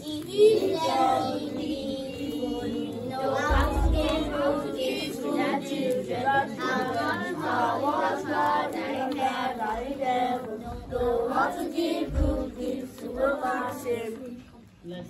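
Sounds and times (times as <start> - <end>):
children singing in unison: 0.0 - 14.5.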